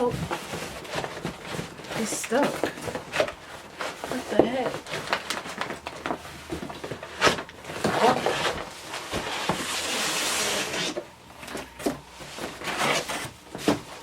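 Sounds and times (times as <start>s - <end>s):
cardboard scraping and rubbing: 0.0s - 14.0s.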